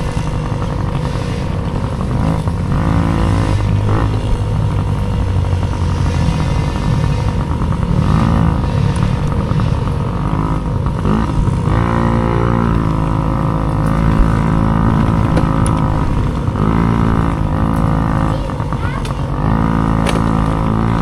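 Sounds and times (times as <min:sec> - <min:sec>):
dirt bike engine running hard: 0:00.0 - 0:21.0.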